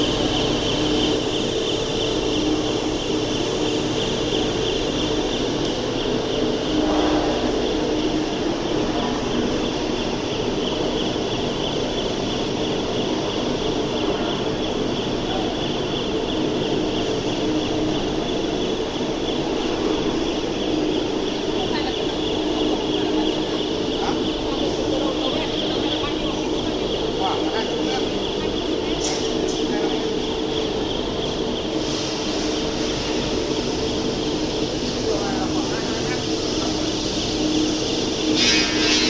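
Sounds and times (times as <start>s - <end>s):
industrial machinery drone: 0.0s - 39.0s.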